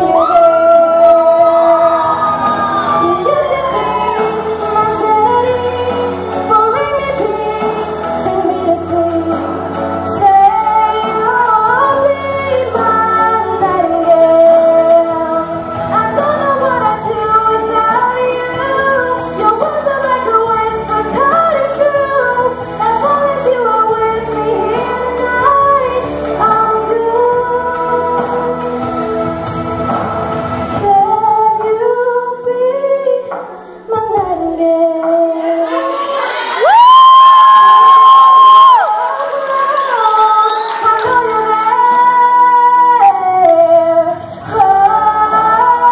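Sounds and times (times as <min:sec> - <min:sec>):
woman singing into microphone: 0:00.0 - 0:29.8, 0:30.6 - 0:45.9
musical accompaniment: 0:00.0 - 0:45.9.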